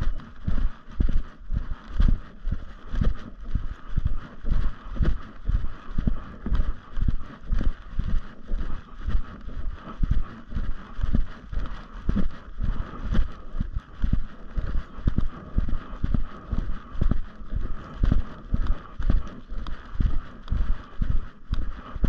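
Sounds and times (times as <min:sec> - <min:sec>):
footsteps walking: 0:00.0 - 0:22.0.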